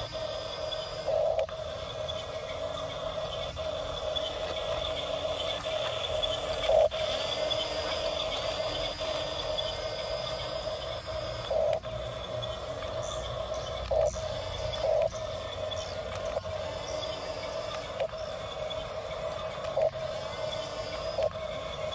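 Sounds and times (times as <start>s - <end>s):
toy bulldozer motors whining: 0.0s - 21.9s.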